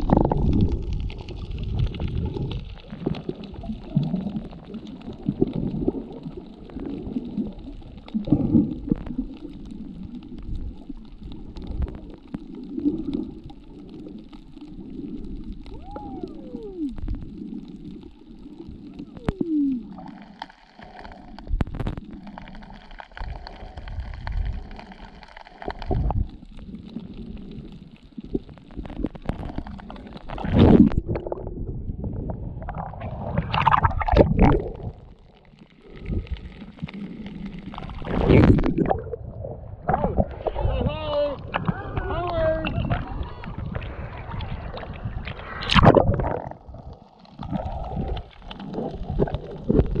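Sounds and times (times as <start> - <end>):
underwater rumbling and sloshing: 0.0 - 50.0
water splashing against camera: 0.0 - 50.0.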